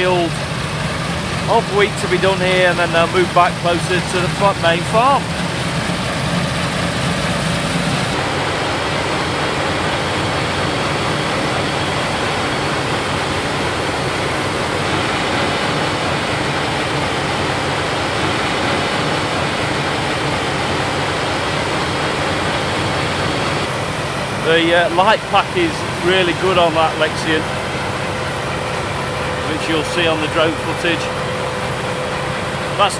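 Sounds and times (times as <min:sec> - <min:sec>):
combine harvester rumble and hiss: 0:00.0 - 0:32.9
low hum: 0:00.0 - 0:32.9.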